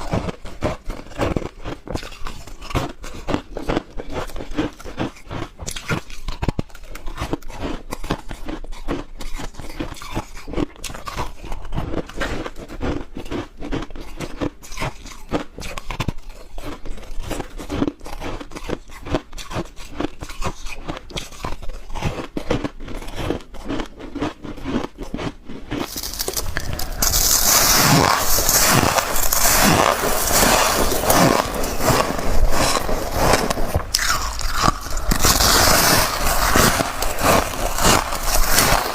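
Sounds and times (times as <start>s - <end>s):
biting and crunching ice: 0.0s - 38.9s.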